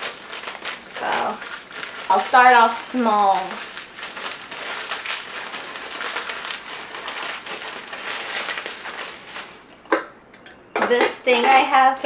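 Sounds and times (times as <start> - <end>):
crackers crushed in plastic bag: 0.0 - 9.8
plastic bag crinkling: 0.0 - 9.9.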